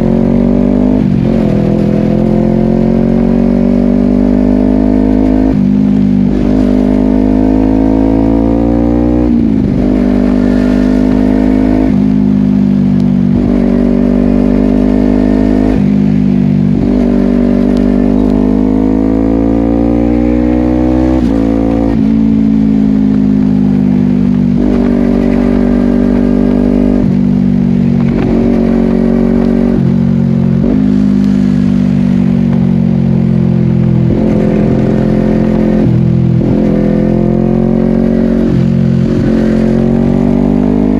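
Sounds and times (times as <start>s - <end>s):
gear changes: 0.0s - 40.9s
motorcycle engine revving: 0.0s - 40.9s.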